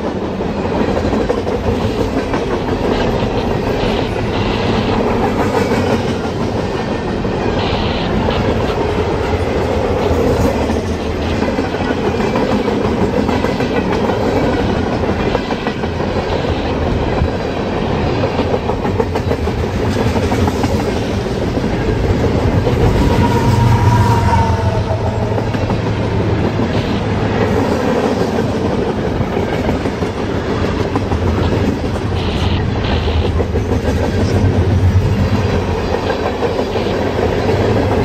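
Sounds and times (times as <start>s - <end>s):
freight train wheels rumbling: 0.0s - 38.0s.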